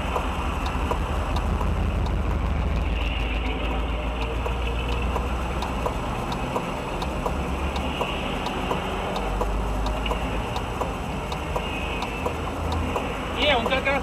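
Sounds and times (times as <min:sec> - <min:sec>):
light regular ticking: 0:00.0 - 0:02.7, 0:03.3 - 0:14.0
moving car rumble: 0:00.0 - 0:14.0.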